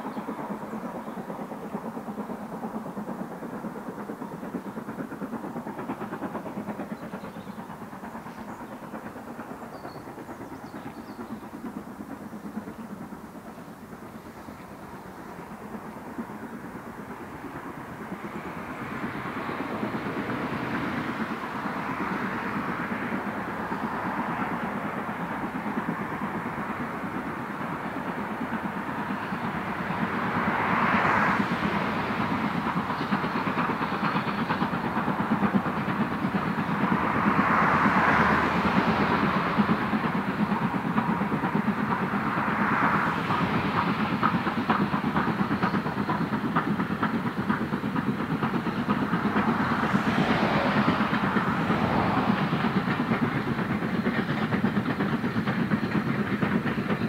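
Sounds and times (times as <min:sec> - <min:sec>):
steam locomotive exhaust: 0:00.0 - 0:57.0
wheels rumbling on track: 0:00.0 - 0:57.0.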